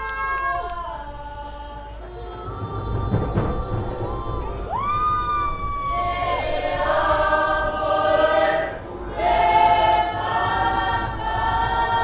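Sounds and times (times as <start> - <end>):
group of voices singing: 0.5 - 12.0.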